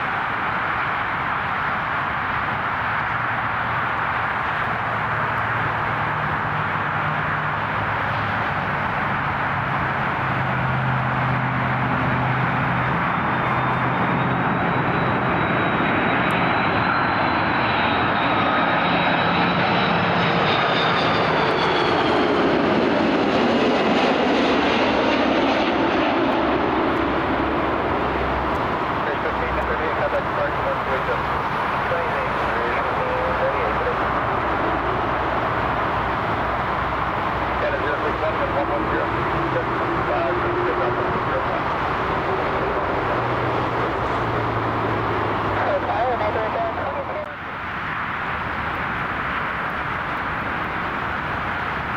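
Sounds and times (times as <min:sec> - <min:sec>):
high engine whine: 0:00.0 - 0:51.9
jet engines roaring: 0:00.0 - 0:51.9.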